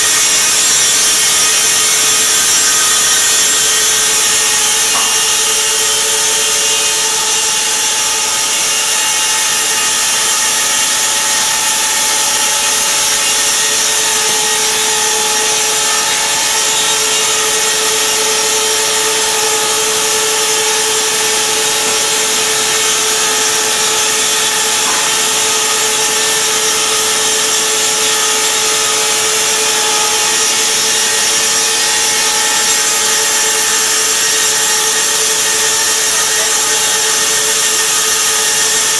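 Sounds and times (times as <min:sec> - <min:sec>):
saw blades ripping wood: 0:00.1 - 0:38.9.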